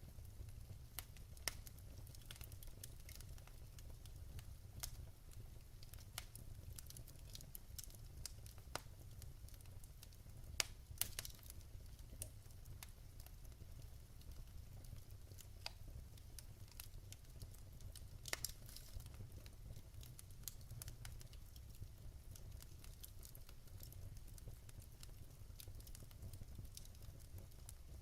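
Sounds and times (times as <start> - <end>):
wood fire crackling: 0.0 - 28.0
fire pops: 0.4 - 5.0, 5.8 - 28.0.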